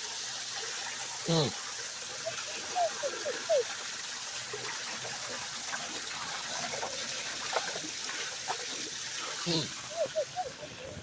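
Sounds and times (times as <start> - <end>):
water gurgling: 0.0 - 11.0
water rushing into drain pipe: 0.0 - 11.0.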